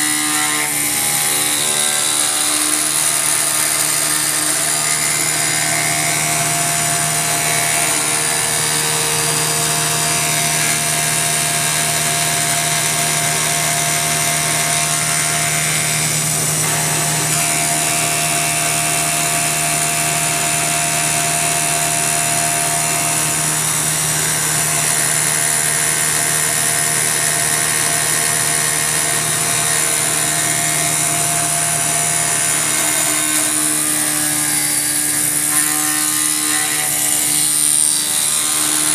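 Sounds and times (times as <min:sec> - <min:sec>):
milling machine cutting with whine: 0:00.0 - 0:38.9.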